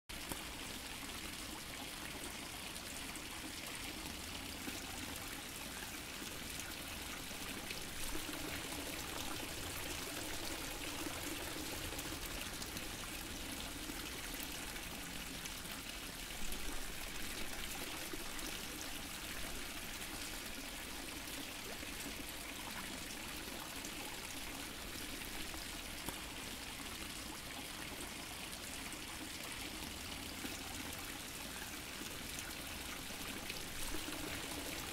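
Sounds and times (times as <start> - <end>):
fountain water splashing: 0.2 - 34.9.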